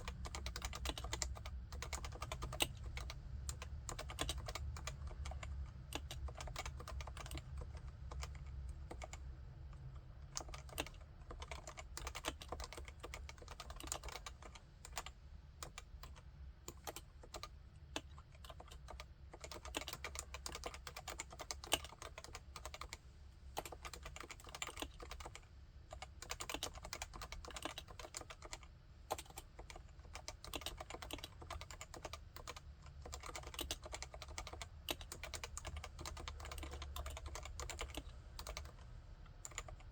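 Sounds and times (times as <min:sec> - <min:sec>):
keyboard typing: 0:00.0 - 0:09.2, 0:10.2 - 0:23.0, 0:23.6 - 0:38.8, 0:39.4 - 0:39.9.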